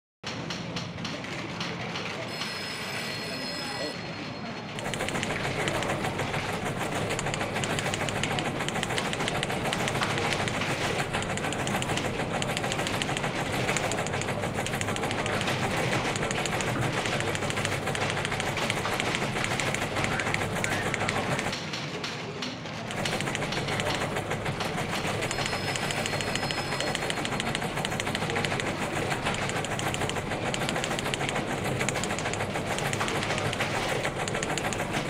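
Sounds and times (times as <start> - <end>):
typewriter keys clattering: 4.8 - 35.0.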